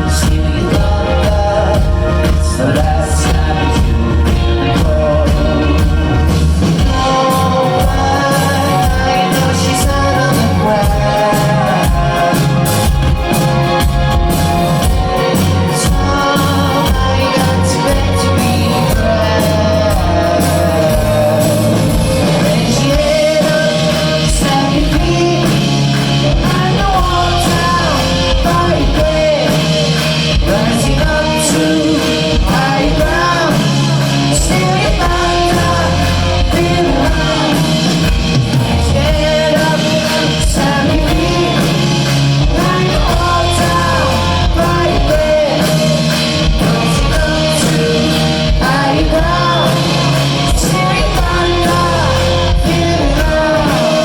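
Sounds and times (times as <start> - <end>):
person singing: 0.0 - 54.0
rock band playing loudly: 0.0 - 54.0.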